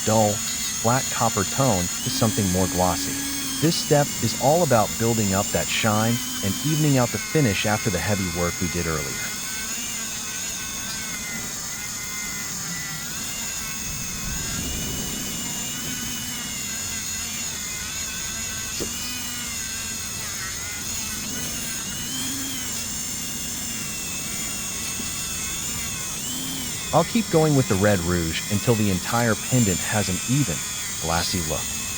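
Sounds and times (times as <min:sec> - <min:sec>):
power tool high whine: 0:00.0 - 0:31.9.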